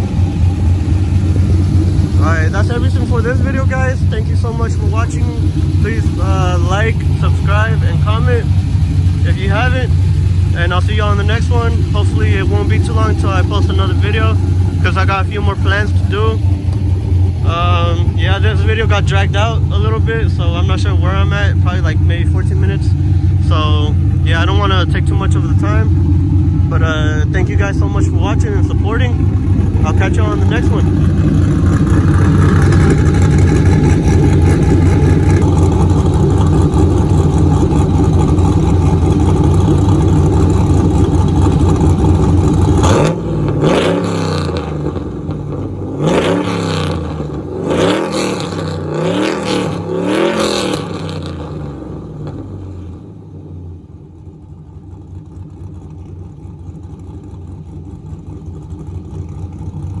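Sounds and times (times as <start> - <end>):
car engine idling and revving: 0.0 - 60.0.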